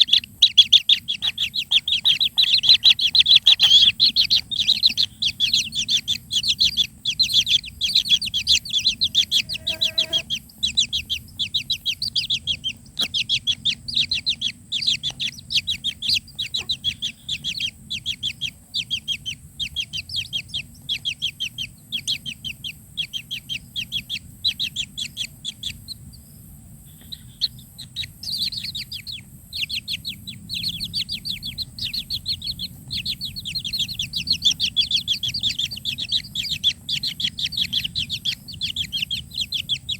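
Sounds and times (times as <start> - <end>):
nestlings chirping: 0.0 - 39.9.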